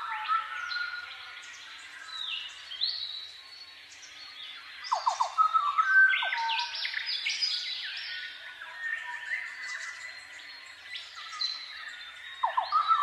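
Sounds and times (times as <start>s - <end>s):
birdsong-like chirping and whistling: 0.0s - 13.0s.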